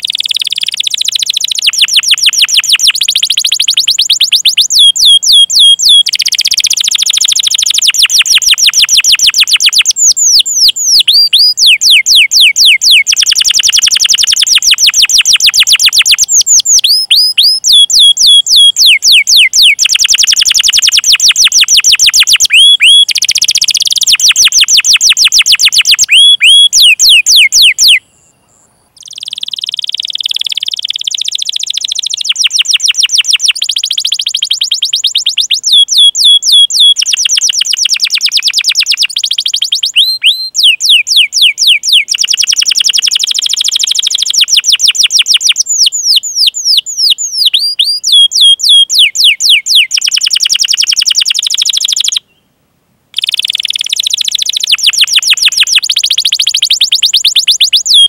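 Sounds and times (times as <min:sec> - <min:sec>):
canary singing trills: 0:00.0 - 0:52.5, 0:53.2 - 0:58.0.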